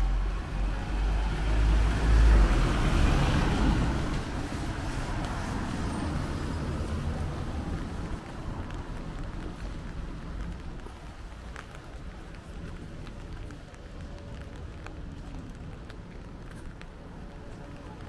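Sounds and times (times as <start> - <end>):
steady traffic noise: 0.0 - 18.0
vehicle passing on wet street: 0.0 - 18.0.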